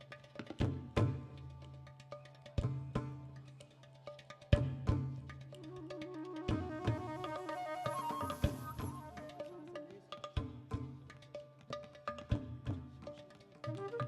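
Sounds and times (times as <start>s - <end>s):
sharp percussion strokes: 0.0s - 12.1s.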